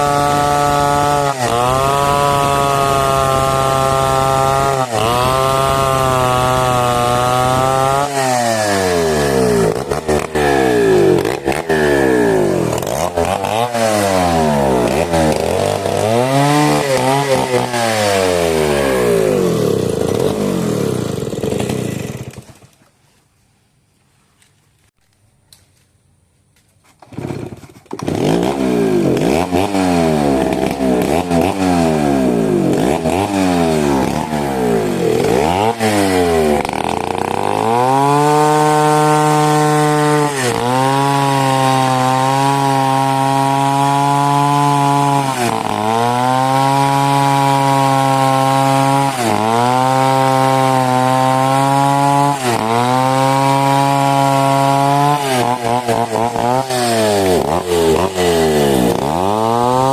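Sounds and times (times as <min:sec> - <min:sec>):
chainsaw revving and cutting wood: 0:00.0 - 0:22.8, 0:26.9 - 0:59.9.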